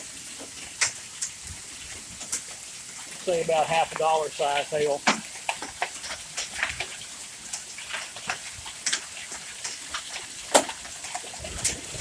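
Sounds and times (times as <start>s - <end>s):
hailstones striking: 0.0s - 12.0s
rain hiss: 0.0s - 12.0s.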